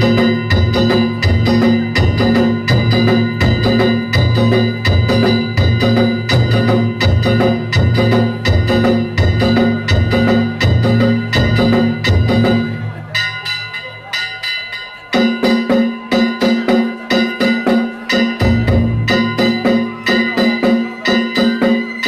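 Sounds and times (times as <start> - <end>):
taiko drums: 0.0 - 12.8, 15.2 - 22.0
small gongs struck rapidly: 0.0 - 22.0.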